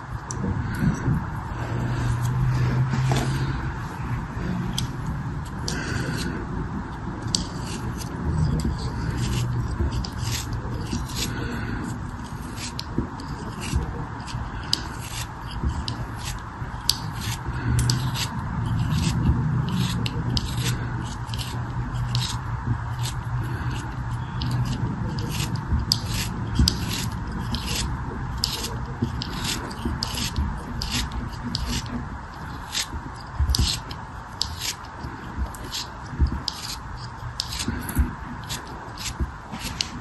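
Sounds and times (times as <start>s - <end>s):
scratchy scraping strokes: 0.0s - 40.0s
steady low hum: 0.0s - 40.0s.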